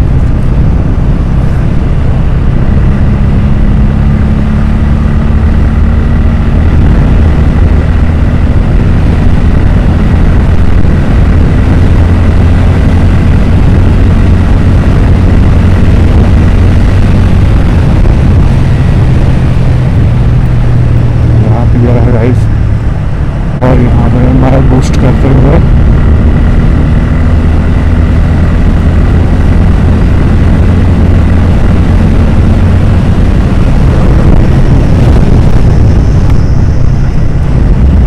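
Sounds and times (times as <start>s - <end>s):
motorcycle engine running: 0.0s - 38.0s
wind rushing over microphone: 0.0s - 38.0s.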